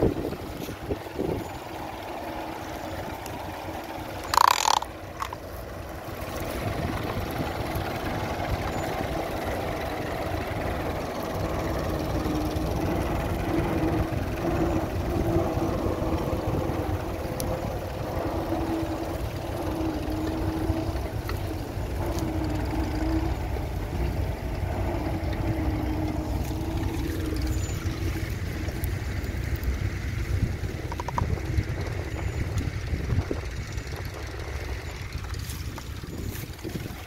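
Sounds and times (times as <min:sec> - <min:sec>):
tractor engine running: 0:00.0 - 0:37.0
wind rumbling on microphone: 0:00.0 - 0:37.0.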